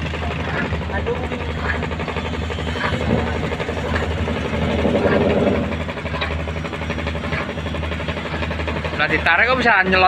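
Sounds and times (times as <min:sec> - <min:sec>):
boat diesel engine running: 0:00.0 - 0:10.0.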